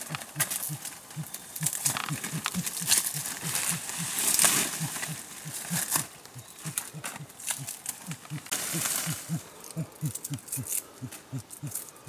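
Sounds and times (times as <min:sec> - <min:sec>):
dry leaves and branches crackling: 0:00.0 - 0:12.0
low repeating pulse: 0:00.0 - 0:12.0.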